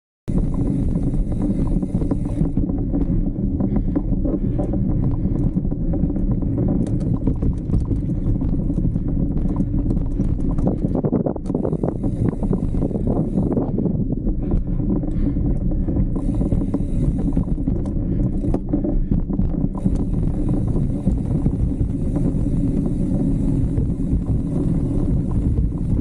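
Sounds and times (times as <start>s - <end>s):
wind rumbling on microphone: 0.3s - 26.0s
bike rattling clicks: 0.4s - 13.8s, 14.4s - 26.0s.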